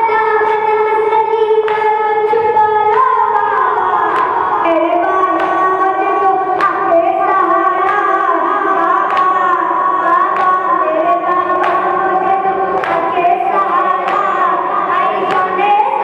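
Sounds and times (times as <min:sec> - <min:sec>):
boy chanting into a microphone: 0:00.0 - 0:16.0.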